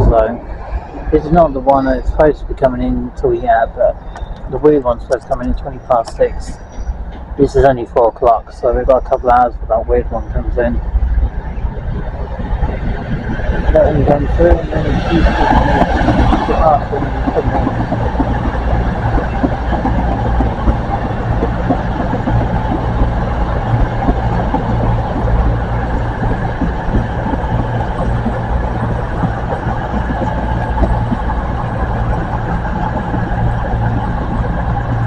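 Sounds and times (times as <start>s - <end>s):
diesel train engines idling: 0.0s - 35.0s.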